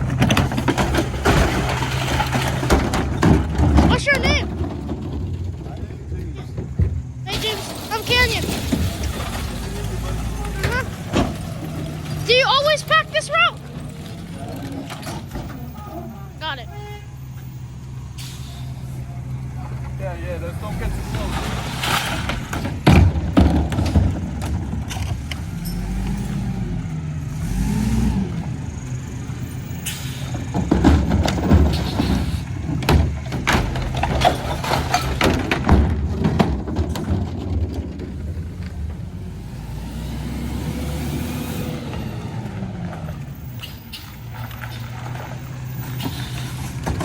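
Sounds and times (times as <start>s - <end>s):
metal clanks and bangs: 0.0s - 16.6s, 19.6s - 26.6s, 29.2s - 47.0s
truck engine revving: 0.0s - 47.0s.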